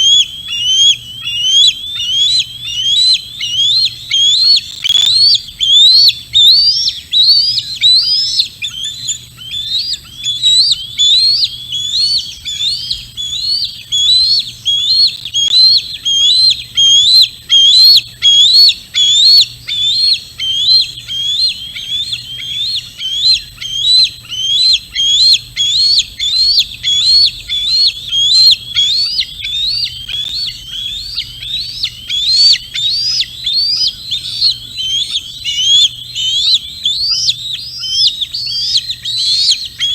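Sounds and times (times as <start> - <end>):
bird calling: 0.0 - 39.9.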